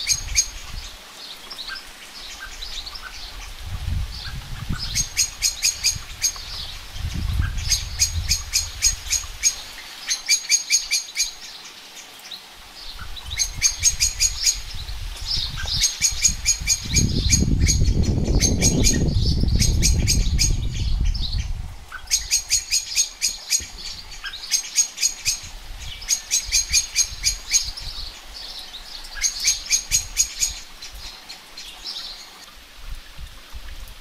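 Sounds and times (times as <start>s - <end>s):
small songbird chirping: 0.0s - 32.5s.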